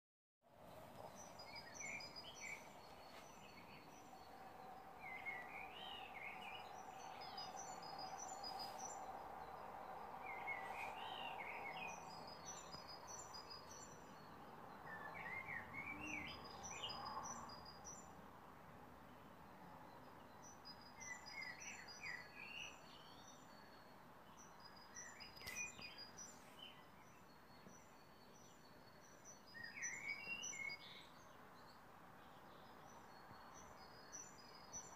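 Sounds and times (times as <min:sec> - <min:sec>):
faint background noise: 0:00.4 - 0:34.9
songbirds singing: 0:00.5 - 0:34.9.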